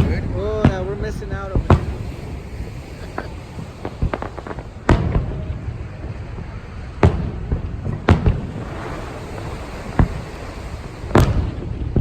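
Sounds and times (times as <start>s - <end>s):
fireworks booming: 0.0s - 12.0s
fireworks crackle: 0.0s - 12.0s.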